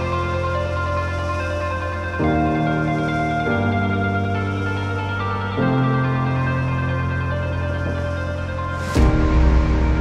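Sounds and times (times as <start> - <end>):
ambient music of held chords: 0.0 - 10.0.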